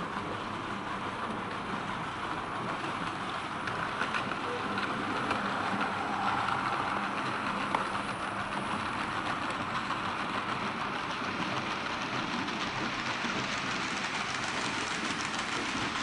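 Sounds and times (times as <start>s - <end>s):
model train wheels rattling on rails: 0.0s - 16.0s.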